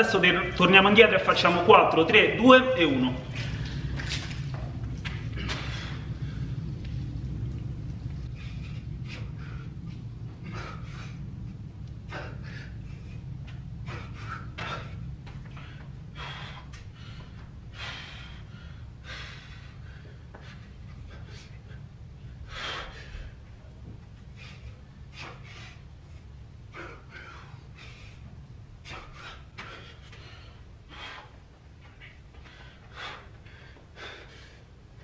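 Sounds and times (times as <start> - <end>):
steady low hum: 0.0 - 35.0
man panting and gasping: 2.8 - 6.8, 8.2 - 35.0.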